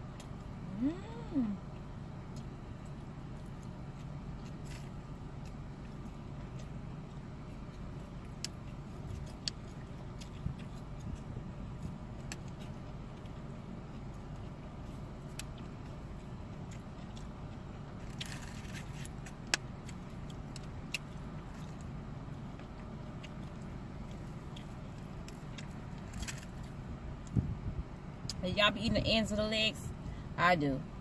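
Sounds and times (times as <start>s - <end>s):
low hum of car interior: 0.0s - 31.0s.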